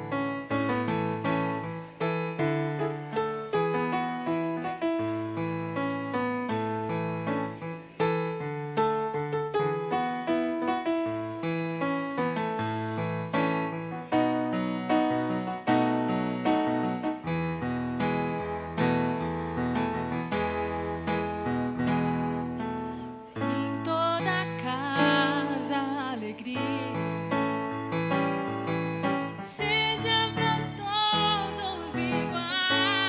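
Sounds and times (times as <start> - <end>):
electric keyboard chords: 0.0 - 33.0.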